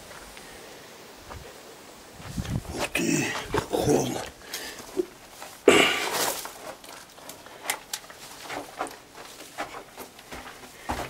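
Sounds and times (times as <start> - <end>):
footsteps crunching on rubble: 1.2 - 1.6, 2.2 - 11.0.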